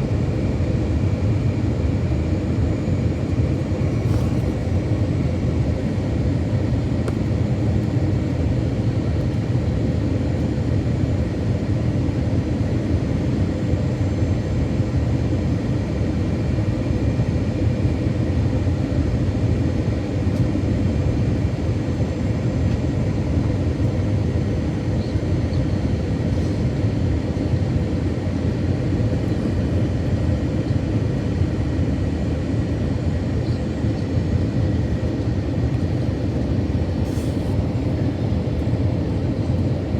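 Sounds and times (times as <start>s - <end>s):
jet engines and airflow rumble: 0.0s - 39.9s.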